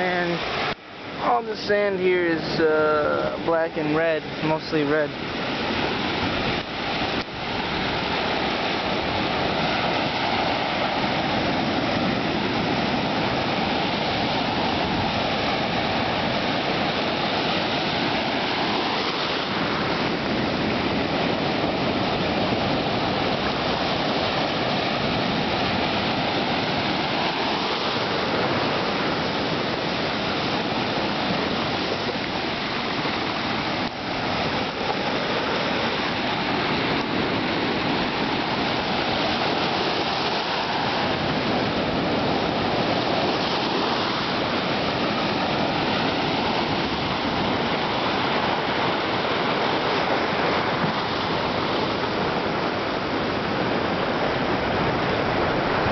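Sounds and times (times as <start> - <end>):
surf washing over shore: 0.0 - 55.9.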